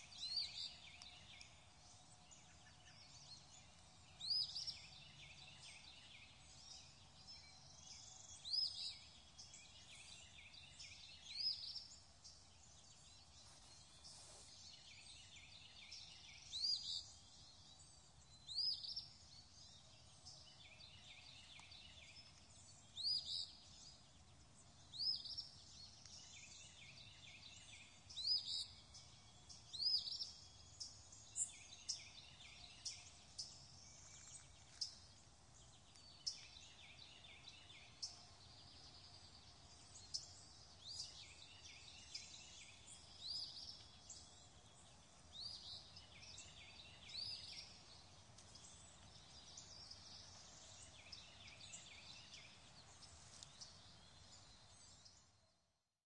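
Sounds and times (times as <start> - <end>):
soft steady hiss: 0.0 - 55.5
bird chirping: 0.0 - 55.7.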